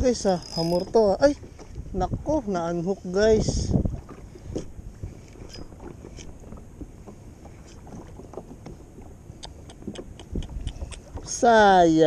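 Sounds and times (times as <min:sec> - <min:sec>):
water lapping against kayak: 0:00.0 - 0:12.0.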